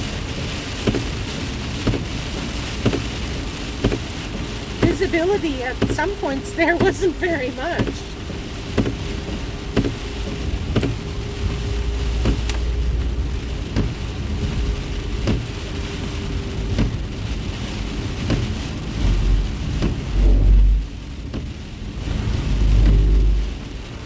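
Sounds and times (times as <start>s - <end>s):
rain drumming on a car: 0.0s - 24.0s
road and tyre rumble: 0.0s - 24.0s.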